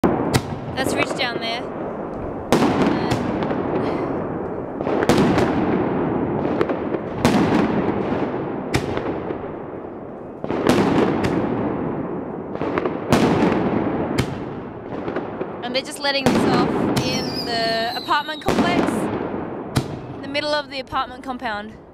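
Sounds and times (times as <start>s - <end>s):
fireworks bangs echoing: 0.0s - 21.0s.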